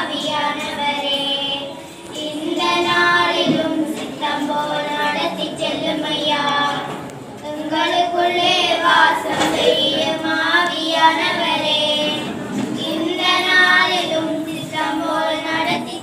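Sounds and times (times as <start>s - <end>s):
children singing: 0.0s - 16.0s.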